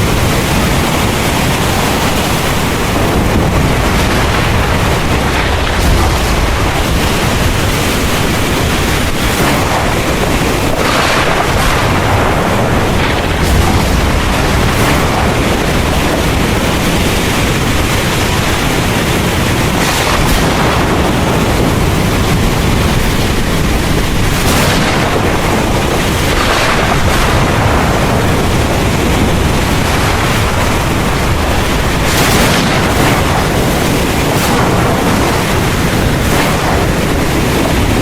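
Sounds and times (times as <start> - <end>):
heavy rain pouring: 0.0 - 38.0
thunder rumbling: 0.0 - 38.0.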